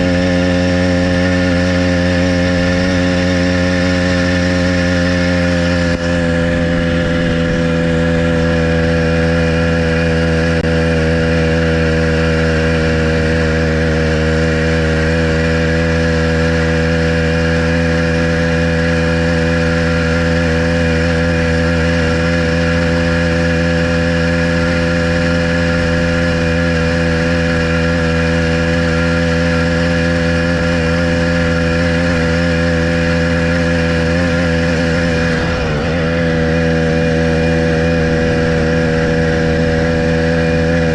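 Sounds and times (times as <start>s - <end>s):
small engine running steadily: 0.0s - 40.9s.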